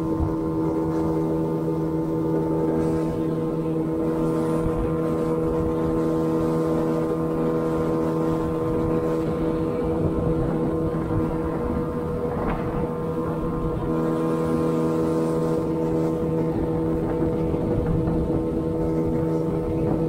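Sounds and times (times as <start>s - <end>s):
outboard motor running: 0.0s - 20.0s
water noise: 0.0s - 20.0s
wind: 0.0s - 20.0s.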